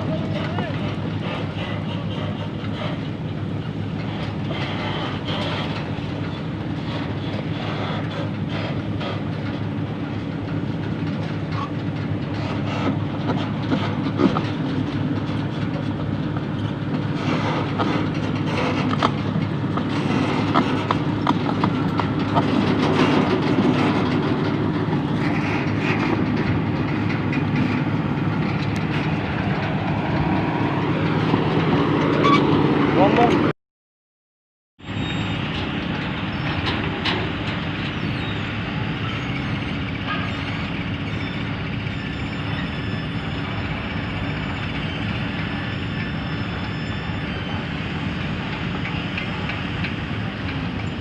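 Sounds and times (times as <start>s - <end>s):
diesel engine running: 0.0s - 33.5s, 34.8s - 51.0s
steel tracks rattling and clanking: 0.0s - 33.5s, 34.8s - 51.0s.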